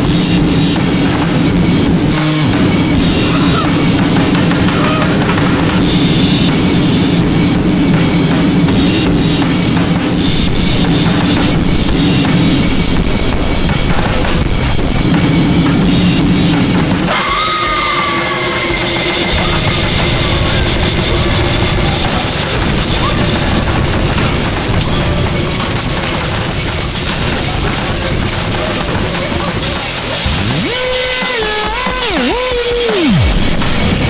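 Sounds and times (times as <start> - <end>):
low drone: 0.0 - 27.1, 30.0 - 34.0
falling whine: 0.0 - 28.3, 29.7 - 34.0
harsh noise music: 0.0 - 34.0.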